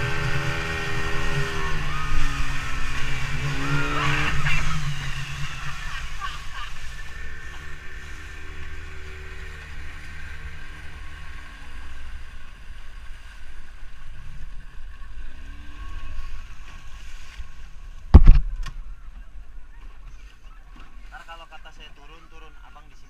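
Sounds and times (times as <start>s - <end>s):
motorboat engine rumbling: 0.0s - 23.0s.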